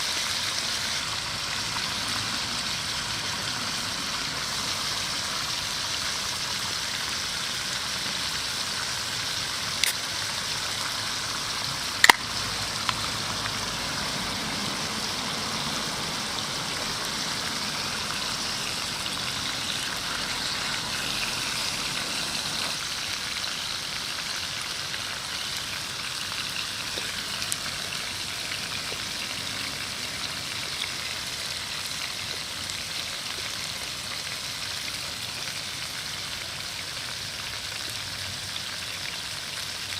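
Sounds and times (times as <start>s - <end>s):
food sizzling on a grill: 0.0s - 39.9s.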